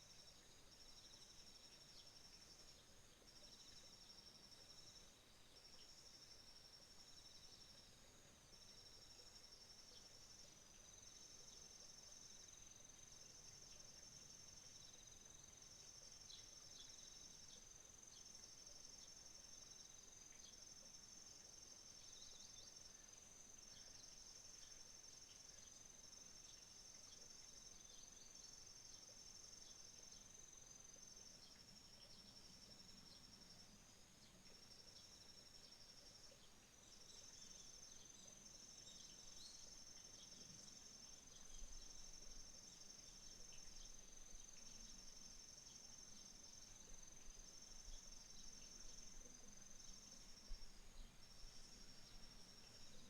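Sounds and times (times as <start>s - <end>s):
lower cricket trill: 0.0s - 53.0s
short cricket chirps: 0.0s - 53.0s.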